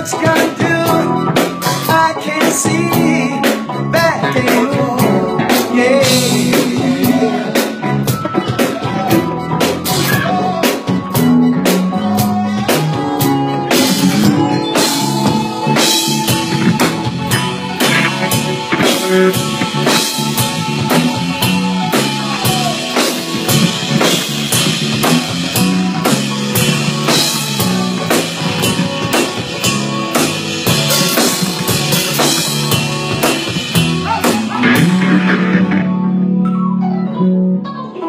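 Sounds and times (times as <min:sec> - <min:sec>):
drum kit beat: 0:00.0 - 0:36.1
funk band playing: 0:00.0 - 0:38.0.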